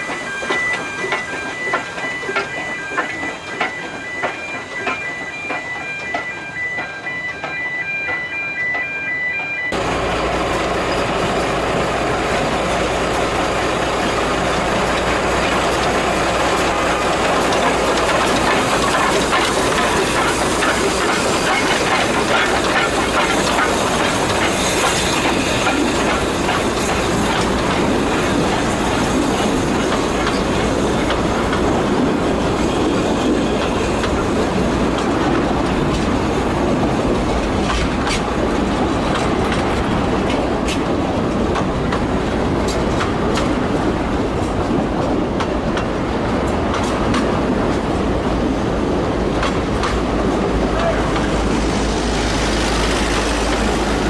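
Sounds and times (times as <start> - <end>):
train rolling rumble: 0.0 - 54.0
wheels clacking on rails: 0.0 - 54.0.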